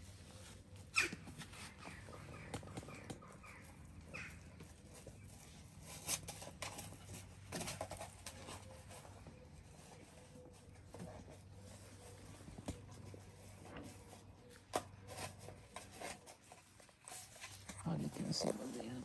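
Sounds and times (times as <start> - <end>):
dogs scuffling and mouthing: 0.0 - 19.0.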